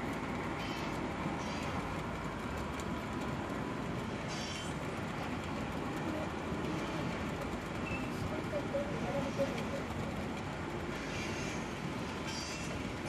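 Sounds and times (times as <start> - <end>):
model train rumbling: 0.0 - 13.0.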